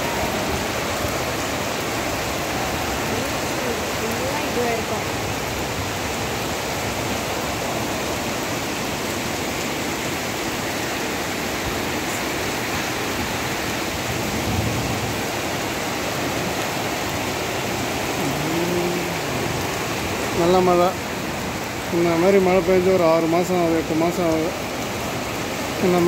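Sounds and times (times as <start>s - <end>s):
heavy rain on wet pavement: 0.0s - 26.0s.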